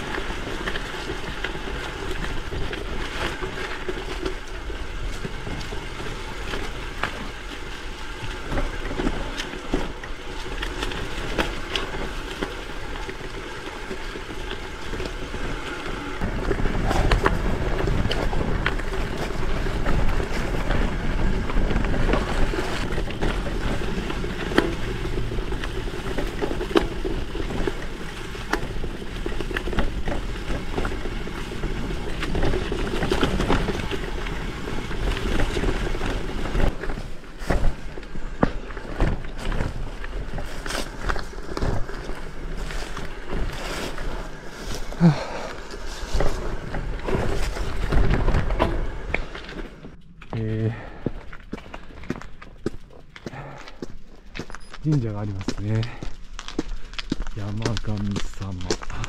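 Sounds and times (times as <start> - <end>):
bike clicks and knocks: 0.0 - 59.0
bike tyres rolling on gravel: 0.0 - 59.0.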